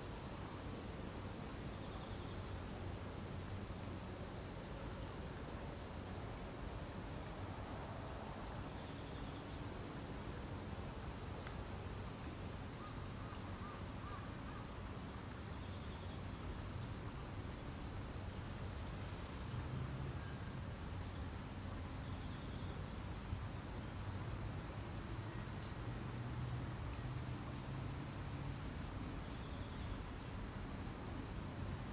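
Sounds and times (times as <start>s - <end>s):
outdoor background noise: 0.0s - 31.9s.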